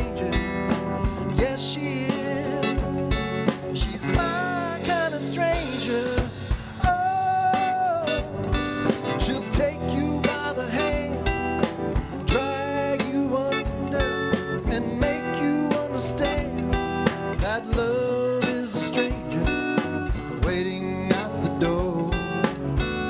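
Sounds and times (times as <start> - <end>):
man singing: 0.0 - 22.6
bass guitar: 0.0 - 23.0
drum kit beat: 0.0 - 23.0
electric guitar: 0.0 - 23.0
keyboard: 0.0 - 23.0.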